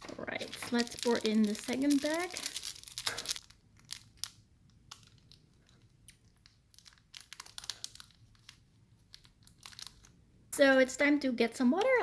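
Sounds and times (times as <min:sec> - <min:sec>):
plastic sachet crinkling: 0:00.0 - 0:10.2.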